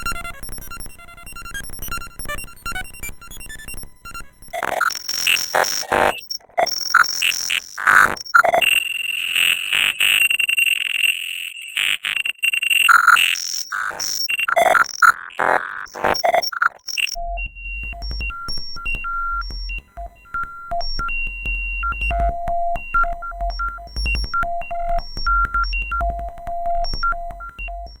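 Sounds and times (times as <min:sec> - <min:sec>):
clicking synthesizer tones: 0:00.0 - 0:08.8, 0:12.8 - 0:28.0
pure synthesizer beeps: 0:00.0 - 0:10.6, 0:12.4 - 0:28.0.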